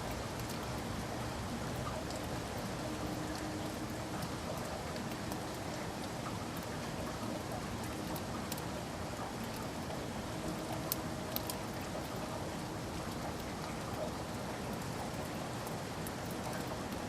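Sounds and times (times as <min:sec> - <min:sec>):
louder water drips: 0:00.0 - 0:17.0
steady rain falling: 0:00.0 - 0:17.0.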